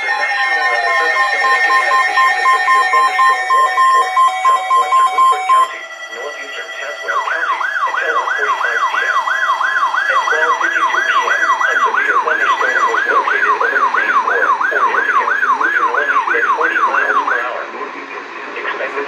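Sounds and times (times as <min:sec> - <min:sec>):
warbling electronic siren alarm: 0:00.0 - 0:17.5.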